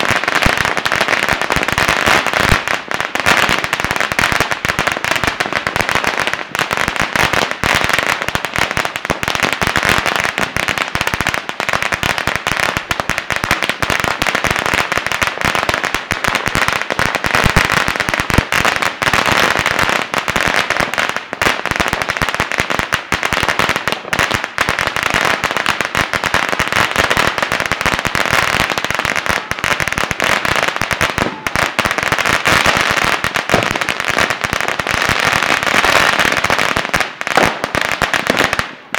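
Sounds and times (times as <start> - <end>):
firecrackers rattling: 0.0 - 38.9.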